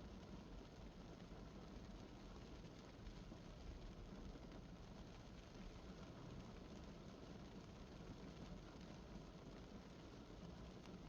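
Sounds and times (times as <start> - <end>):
light rain on a car: 0.1 - 11.0.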